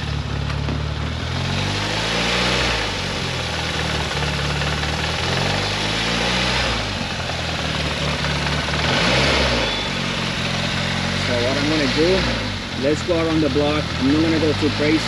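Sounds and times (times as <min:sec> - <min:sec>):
car engine idling unevenly: 0:00.0 - 0:15.0.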